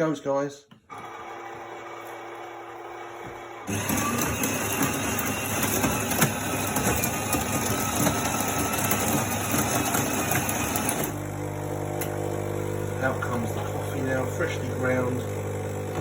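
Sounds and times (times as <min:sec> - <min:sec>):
coffee grinder grinding beans: 0:00.9 - 0:16.0
coffee machine humming: 0:00.9 - 0:16.0.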